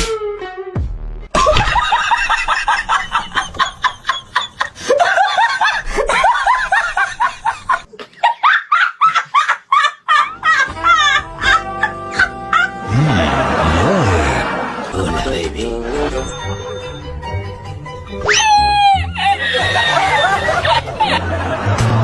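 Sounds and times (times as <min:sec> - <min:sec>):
person laughing hard: 0:01.4 - 0:16.3, 0:19.2 - 0:22.0.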